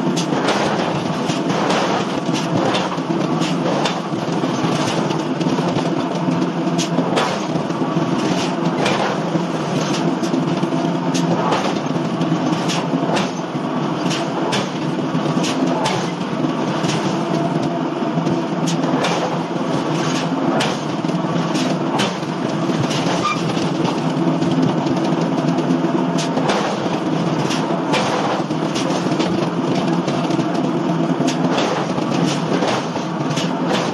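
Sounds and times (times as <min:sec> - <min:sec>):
forging machinery hum: 0:00.0 - 0:33.9.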